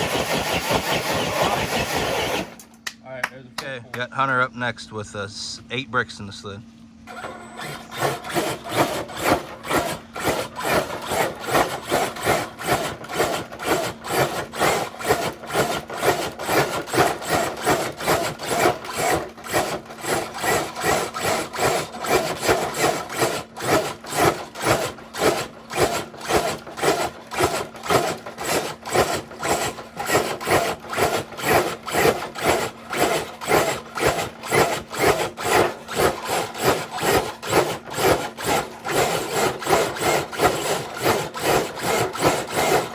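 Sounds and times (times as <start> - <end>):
toy truck motor grinding: 0.0 - 2.6, 7.1 - 42.9.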